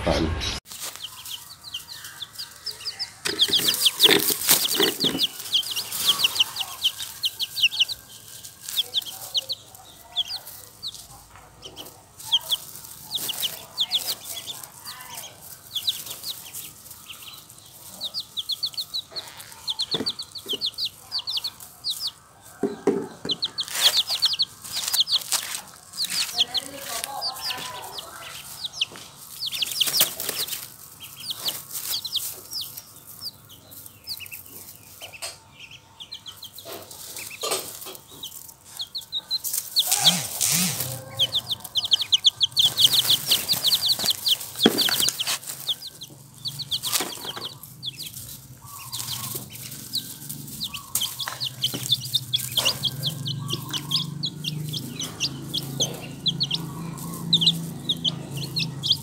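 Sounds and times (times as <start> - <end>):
chicks peeping: 0.0 - 59.0
rustling and pecking in straw: 0.7 - 35.5, 36.1 - 59.0.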